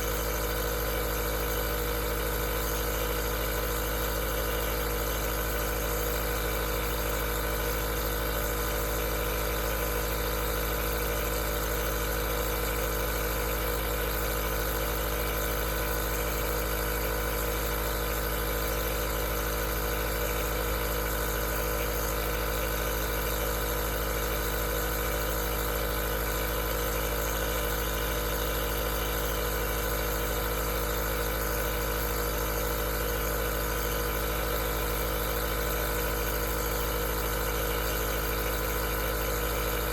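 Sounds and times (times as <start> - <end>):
nebulizer compressor humming: 0.0 - 39.9.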